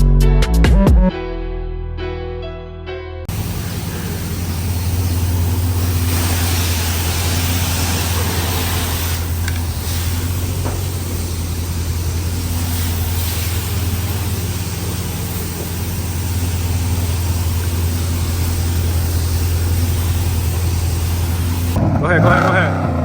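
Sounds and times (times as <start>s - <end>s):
car engine idling: 3.3s - 23.0s.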